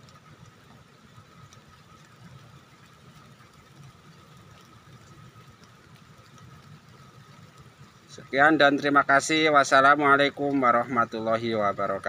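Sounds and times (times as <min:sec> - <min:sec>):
light rain on foliage: 0:00.0 - 0:12.0.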